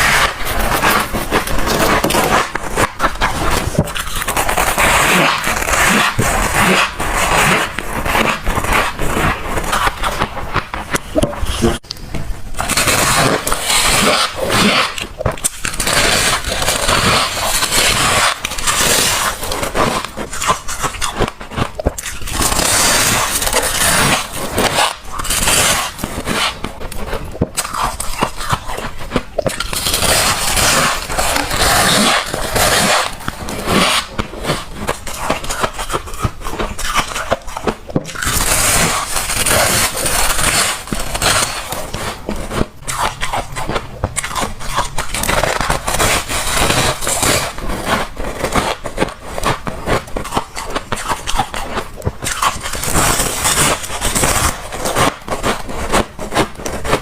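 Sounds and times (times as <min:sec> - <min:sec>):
crunching frost being chewed: 0:00.0 - 0:57.0.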